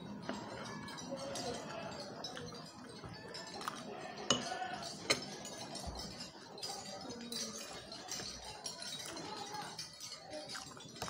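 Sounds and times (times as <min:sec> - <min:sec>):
skewers clinking against clay dish: 0:00.0 - 0:11.0.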